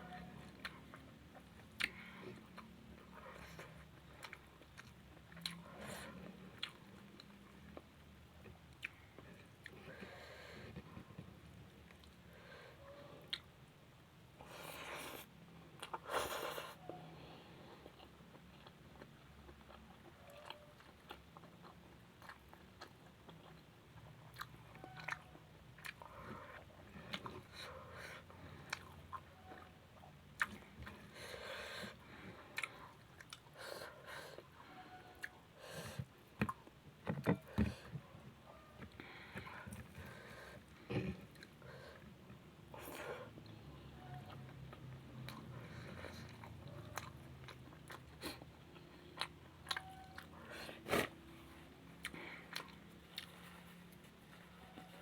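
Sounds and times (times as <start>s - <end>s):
chewing and biting food: 0.4s - 10.1s, 17.8s - 55.0s.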